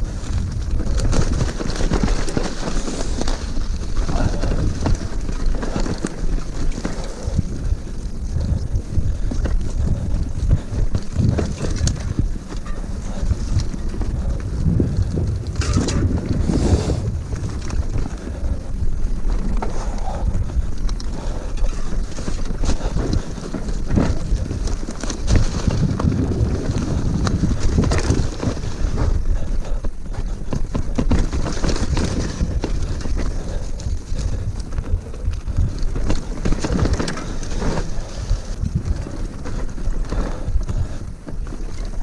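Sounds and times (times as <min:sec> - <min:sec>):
bike knocks and rattles: 0:00.0 - 0:42.0
wind buffeting microphone: 0:00.0 - 0:42.0.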